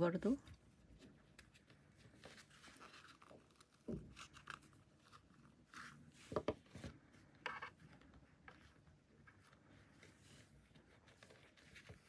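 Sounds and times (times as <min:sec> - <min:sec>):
cord rustling and rubbing: 0:00.4 - 0:12.0.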